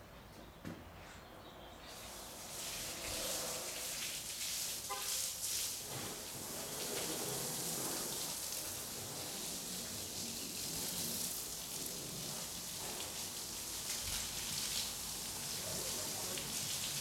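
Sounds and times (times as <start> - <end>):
water spraying on a car: 1.8 - 17.0.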